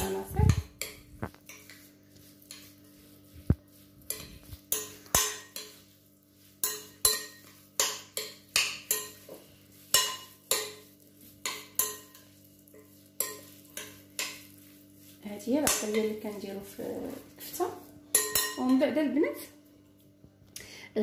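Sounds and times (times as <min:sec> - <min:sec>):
utensil scraping and clinking bowl: 0:00.0 - 0:19.0.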